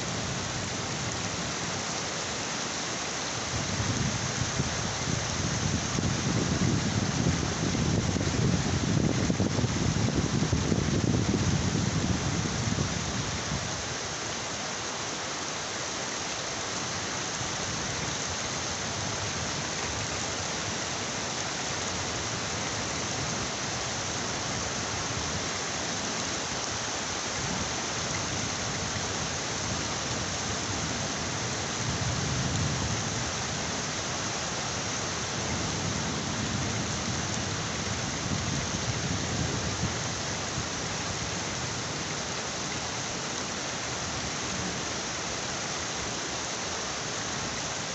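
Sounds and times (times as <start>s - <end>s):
heavy rain hiss: 0.0s - 47.9s.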